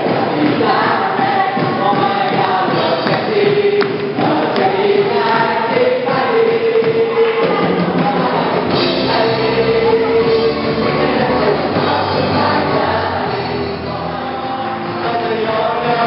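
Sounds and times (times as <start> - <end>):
backing music: 0.0 - 16.0
crowd singing worship song: 0.0 - 16.0.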